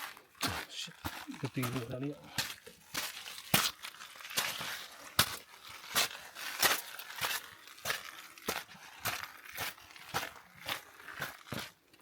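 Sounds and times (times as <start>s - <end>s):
footsteps crunching on gritty ground: 0.0s - 12.0s.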